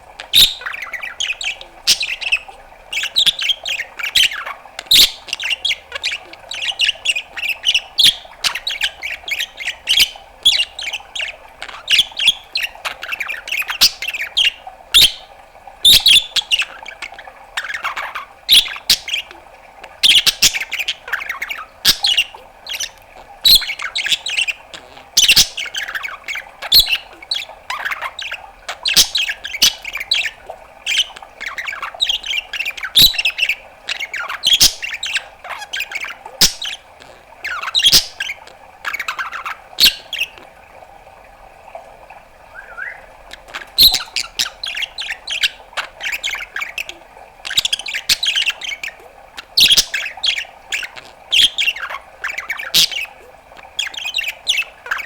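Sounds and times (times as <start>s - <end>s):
budgerigar chattering: 0.2s - 15.3s, 15.9s - 19.3s, 20.0s - 40.4s, 42.6s - 55.0s.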